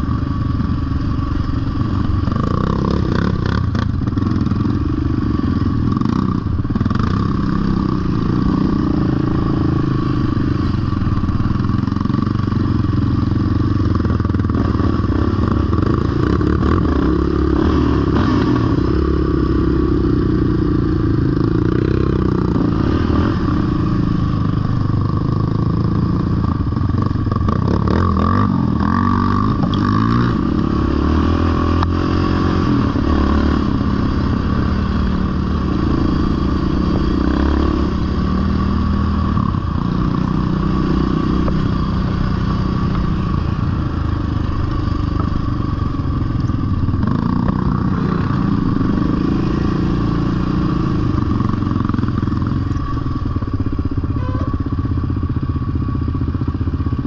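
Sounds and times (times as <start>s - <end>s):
quad bike engine revving: 0.0s - 54.8s.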